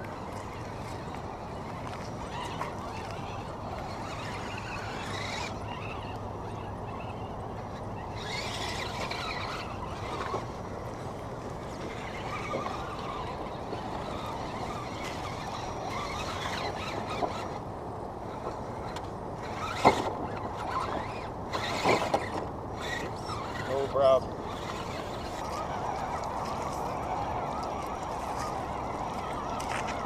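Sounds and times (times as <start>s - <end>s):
toy truck electric motors whining: 0.0s - 30.0s.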